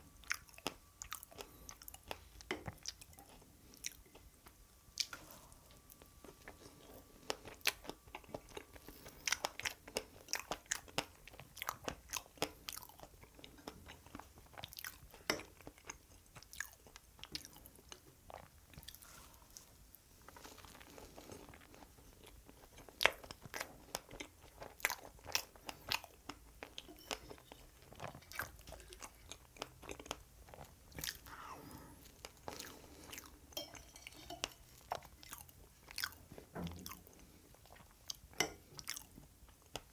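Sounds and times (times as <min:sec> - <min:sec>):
person chewing cake: 0:00.0 - 0:39.9.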